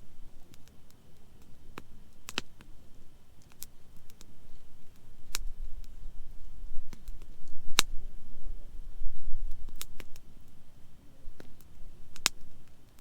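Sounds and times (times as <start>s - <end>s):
campfire crackling and popping: 0.0s - 13.0s
faint low rumble: 0.0s - 13.0s.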